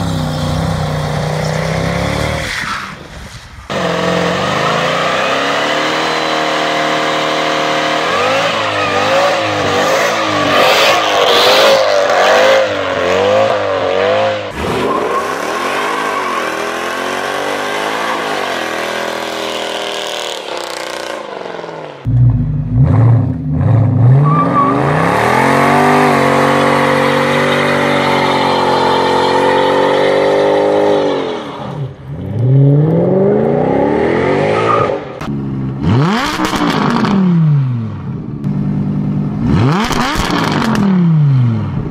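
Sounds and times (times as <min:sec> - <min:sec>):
car engine revving in a burnout: 0:03.7 - 0:21.9, 0:22.7 - 0:37.7, 0:39.4 - 0:41.9.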